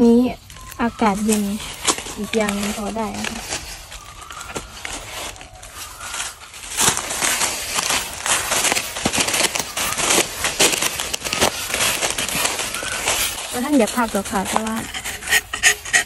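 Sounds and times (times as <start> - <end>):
footsteps crunching dry leaves: 0.1 - 16.0.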